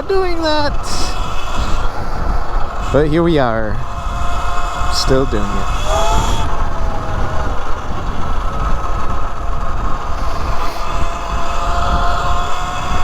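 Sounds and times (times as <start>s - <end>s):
electric motor whining: 0.0s - 13.0s
wind rumble on microphone: 0.0s - 13.0s.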